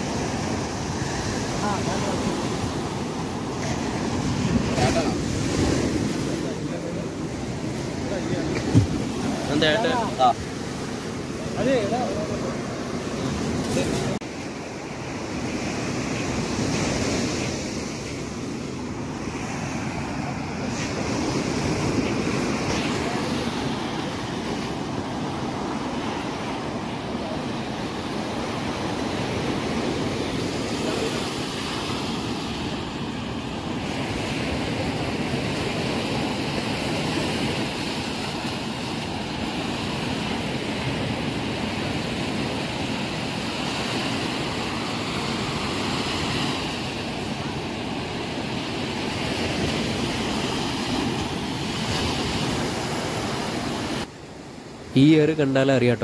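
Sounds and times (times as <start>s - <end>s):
sea surf breaking on beach: 0.0s - 56.0s.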